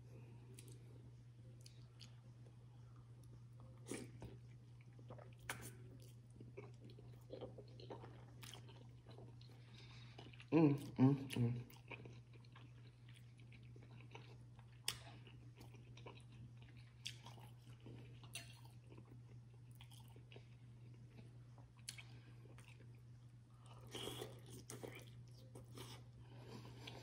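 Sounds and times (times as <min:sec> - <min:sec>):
chewing and biting food: 0:03.7 - 0:27.0.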